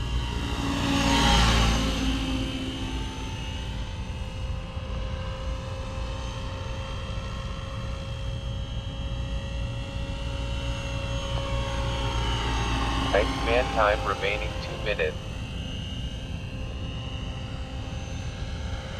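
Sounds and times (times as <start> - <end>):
model helicopter rotor whine: 0.0 - 18.9.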